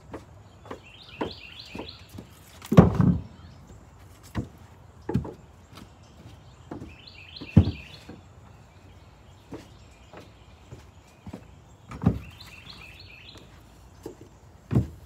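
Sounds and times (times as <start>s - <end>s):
irregular knocks and thumps: 0.0s - 8.3s, 9.4s - 15.0s
bird chirping: 0.0s - 15.0s.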